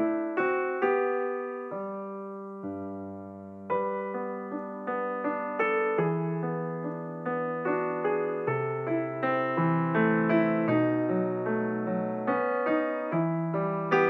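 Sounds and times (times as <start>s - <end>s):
slow calm solo piano: 0.0s - 14.0s.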